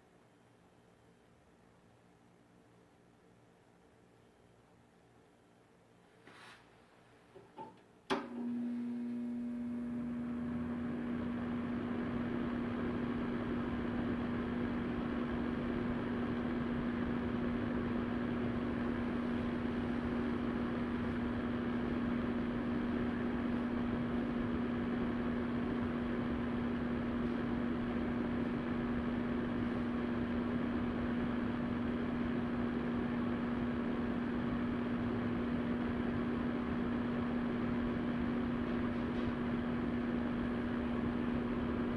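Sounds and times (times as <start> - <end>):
fan heater blowing air: 6.2 - 41.9
motor hum: 8.1 - 41.9.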